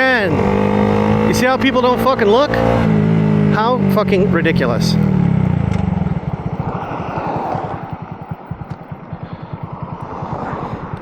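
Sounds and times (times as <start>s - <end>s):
motorcycle engine puttering: 0.0s - 11.0s.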